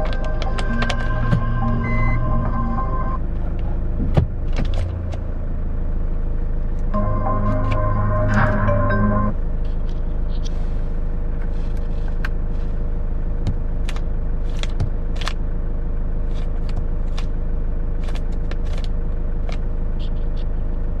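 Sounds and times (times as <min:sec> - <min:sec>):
van engine rumbling: 0:00.0 - 0:21.0.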